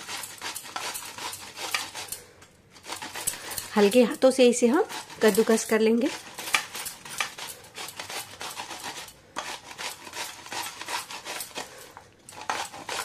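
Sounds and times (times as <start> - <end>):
cucumber rasping on a grater: 0.0 - 13.0.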